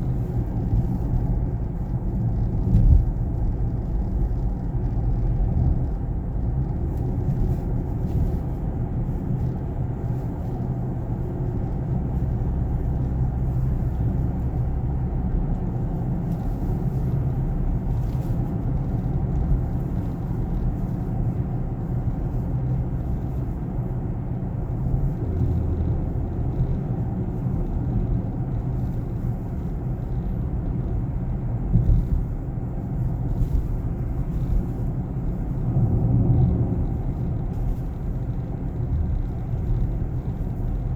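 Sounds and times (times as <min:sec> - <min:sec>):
car cabin road rumble: 0:00.0 - 0:40.9.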